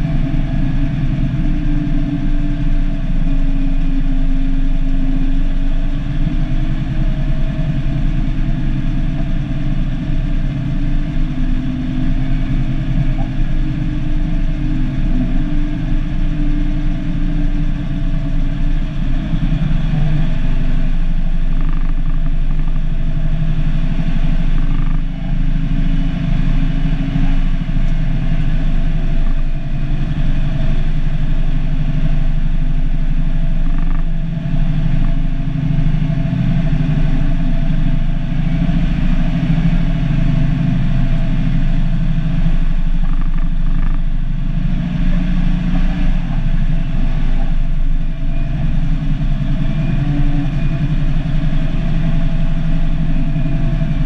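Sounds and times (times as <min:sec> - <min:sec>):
diesel truck engine drone: 0:00.0 - 0:54.0.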